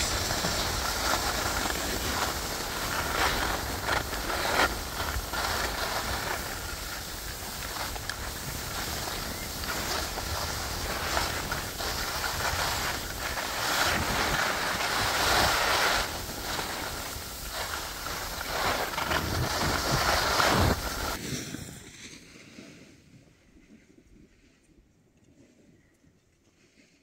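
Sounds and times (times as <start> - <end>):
wind on microphone: 0.0 - 21.9
skis sliding over snow: 0.0 - 23.1.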